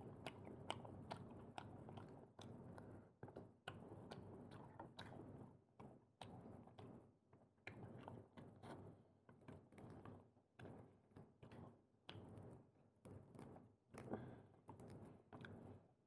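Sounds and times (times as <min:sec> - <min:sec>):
soft chewing: 0:00.0 - 0:15.9.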